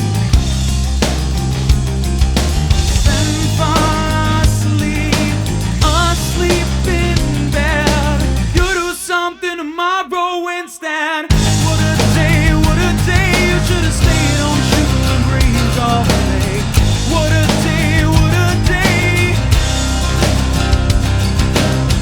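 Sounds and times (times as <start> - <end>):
rock music: 0.0 - 9.6, 11.3 - 22.0.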